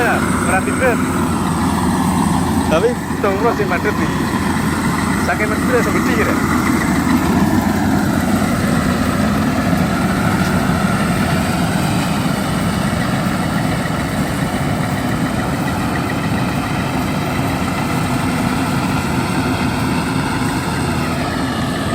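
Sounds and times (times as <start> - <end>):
harvester engine running: 0.0 - 21.9.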